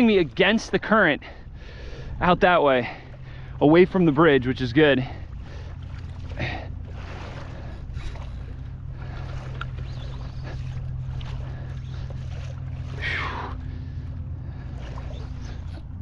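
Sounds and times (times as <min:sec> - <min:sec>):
steady low hum: 0:00.0 - 0:16.0
water rushing along hull: 0:00.0 - 0:16.0
water swishes: 0:00.0 - 0:16.0.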